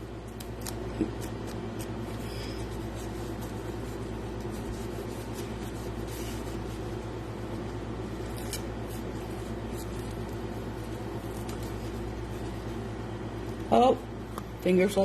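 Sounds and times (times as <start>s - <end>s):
low room hum: 0.0s - 15.0s
wrapping crinkling: 0.1s - 13.7s.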